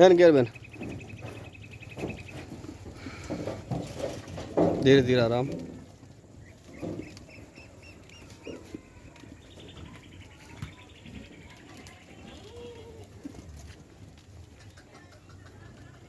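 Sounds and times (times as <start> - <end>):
small birds chirping: 0.0 - 3.6, 5.1 - 13.3, 14.4 - 16.0.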